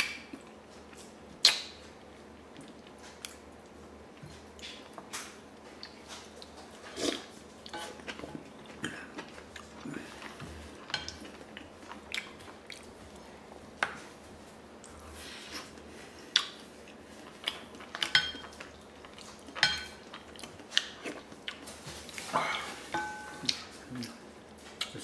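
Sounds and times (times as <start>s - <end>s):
chewing: 0.0s - 13.3s, 14.8s - 22.8s.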